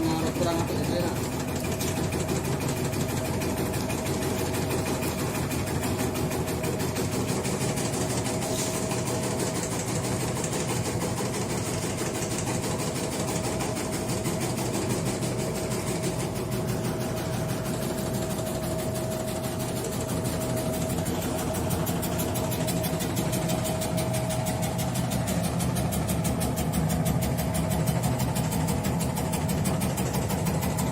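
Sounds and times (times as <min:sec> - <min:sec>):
shredding machine running: 0:00.0 - 0:30.9.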